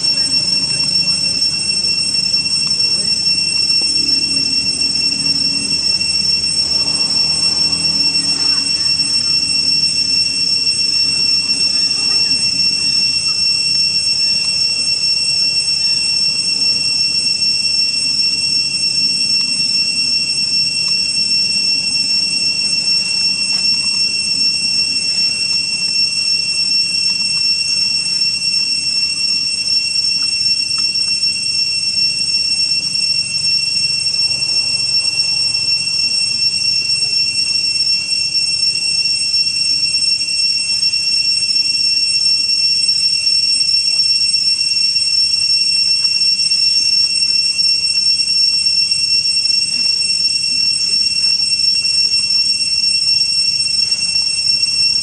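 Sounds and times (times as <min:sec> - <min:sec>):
shrill two-tone drone: 0:00.0 - 0:55.0.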